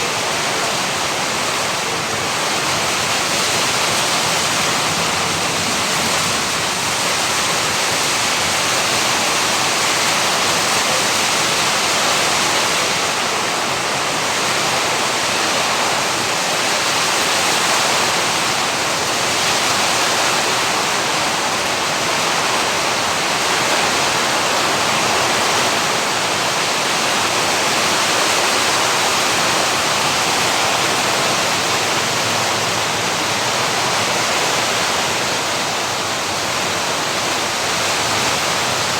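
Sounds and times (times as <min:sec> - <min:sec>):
heavy rain pouring: 0:00.0 - 0:38.9
stormy wind: 0:00.0 - 0:38.9.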